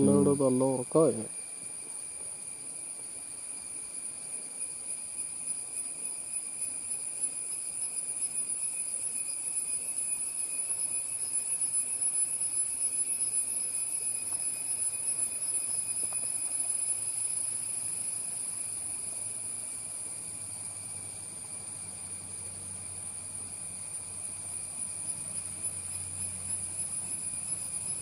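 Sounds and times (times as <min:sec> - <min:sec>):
forest insects buzzing: 0:00.0 - 0:28.0.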